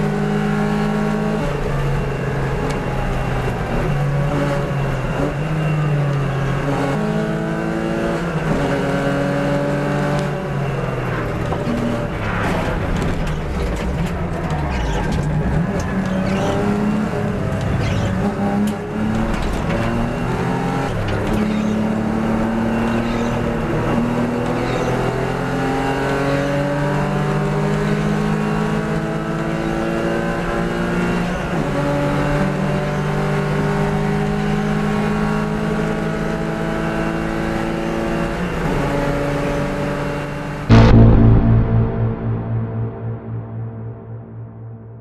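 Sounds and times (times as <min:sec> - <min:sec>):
race car engine accelerating: 0:00.0 - 0:42.2.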